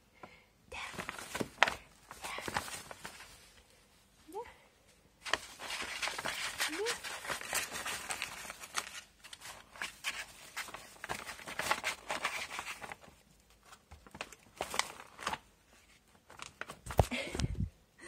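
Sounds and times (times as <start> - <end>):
paper rustling and crinkling: 0.8 - 3.9, 5.2 - 17.6.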